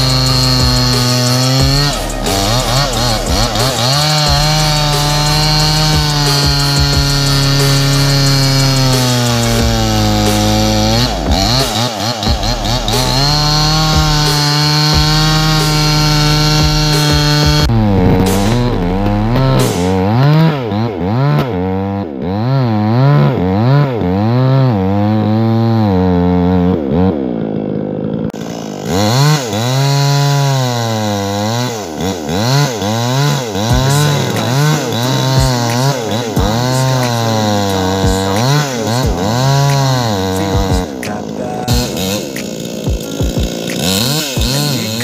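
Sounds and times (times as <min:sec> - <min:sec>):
chainsaw revving: 0:00.0 - 0:45.0.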